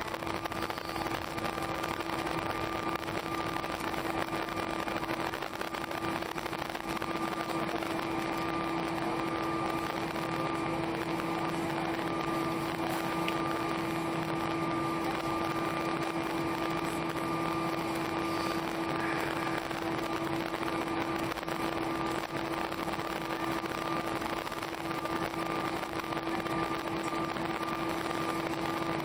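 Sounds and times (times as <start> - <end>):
aircraft engines idling: 0.0 - 29.0
air conditioning blowing: 1.4 - 29.0.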